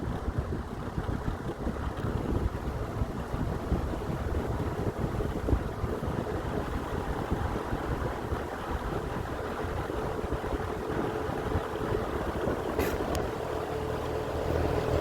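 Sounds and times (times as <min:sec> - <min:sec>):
electric fan air rush: 0:00.0 - 0:15.0
wind buffeting microphone: 0:00.0 - 0:15.0.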